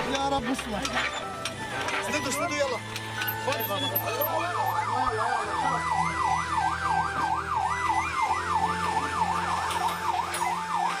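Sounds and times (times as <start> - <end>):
ambulance siren yelping: 0.4 - 11.0.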